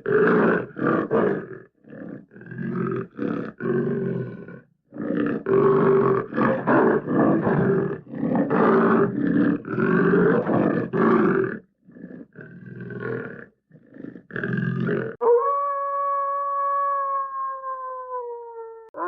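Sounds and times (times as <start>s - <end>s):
cartoon animal roars and growls: 0.0s - 19.0s.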